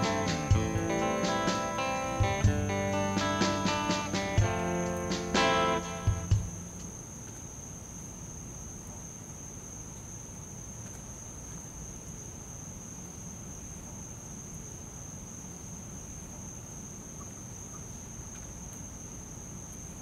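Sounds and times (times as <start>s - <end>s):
crickets chirring: 0.0s - 20.0s
low background hiss: 0.0s - 20.0s.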